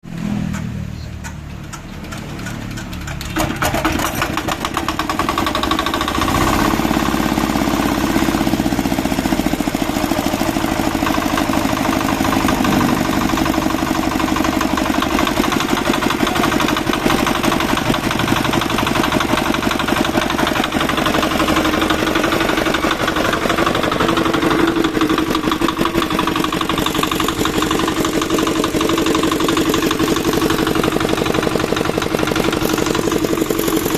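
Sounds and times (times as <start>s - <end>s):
diesel engine starting and running: 0.0s - 33.9s.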